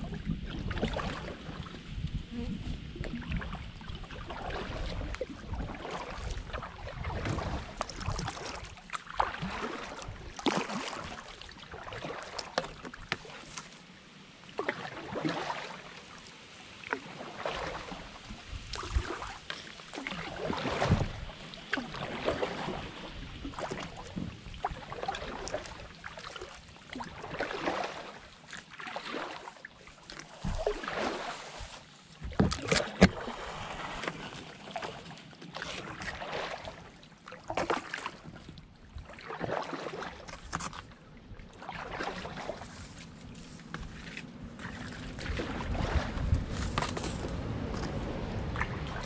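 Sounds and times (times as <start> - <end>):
paddle splashing in water: 0.0 - 49.0.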